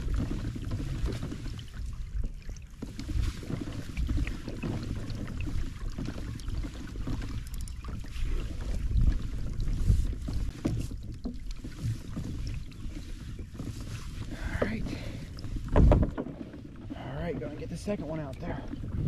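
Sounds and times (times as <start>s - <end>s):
wind buffeting microphone: 3.0s - 19.0s.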